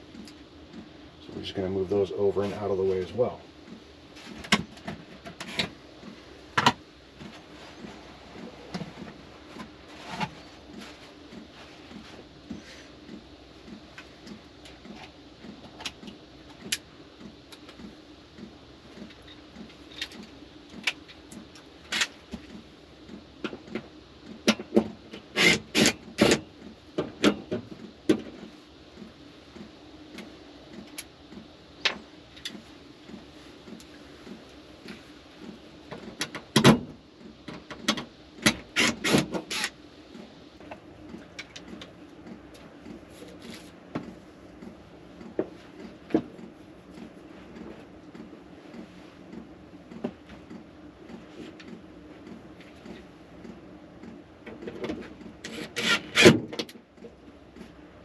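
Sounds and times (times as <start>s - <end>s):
pulsing low hum: 0.0s - 56.2s.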